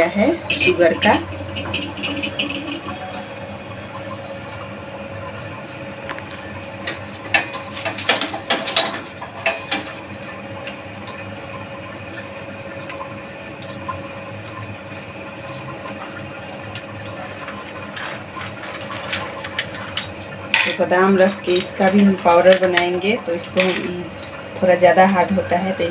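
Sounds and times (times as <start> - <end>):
mechanical hum: 0.0 - 25.9.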